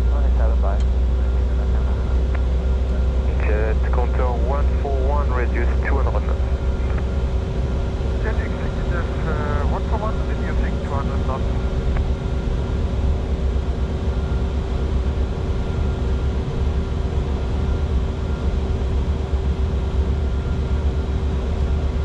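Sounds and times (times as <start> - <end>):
jet airflow and engine rumble: 0.0 - 22.0
steady cockpit hum: 0.0 - 22.0.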